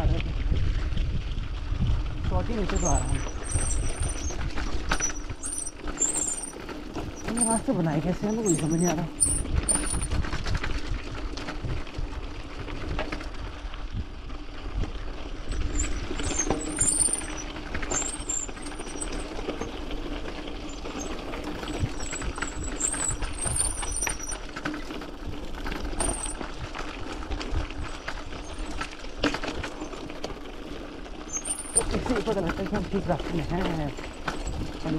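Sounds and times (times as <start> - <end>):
wind rumble on microphone: 0.0 - 34.9
bike tyres crunching over stones: 0.7 - 34.8
bike rattling and knocking: 2.3 - 13.6, 14.3 - 34.9.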